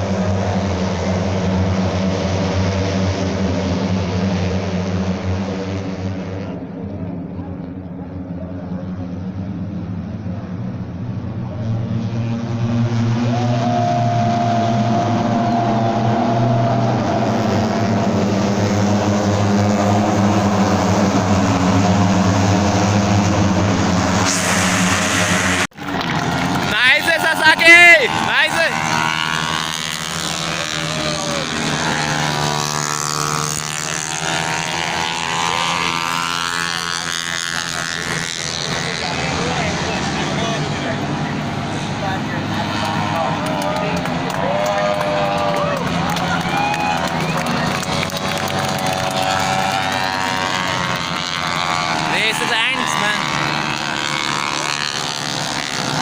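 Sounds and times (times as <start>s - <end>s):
racing motorcycles at high revs: 0.0s - 56.0s.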